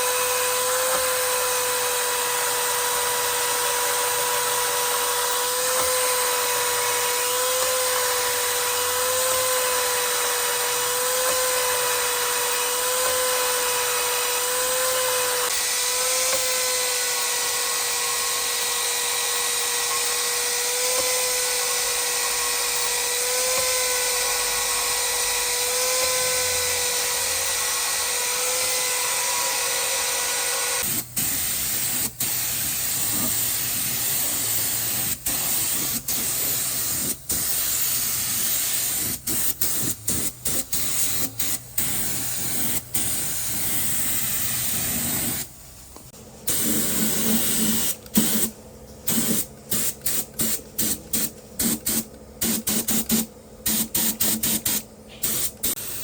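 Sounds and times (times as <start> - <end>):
compressed air hissing from air gun: 0.0 - 23.0, 23.6 - 56.0.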